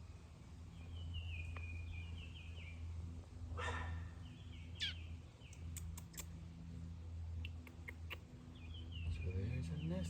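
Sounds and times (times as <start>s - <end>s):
low steady hum: 0.0s - 10.0s
bird chirping: 0.6s - 6.5s, 7.3s - 10.0s.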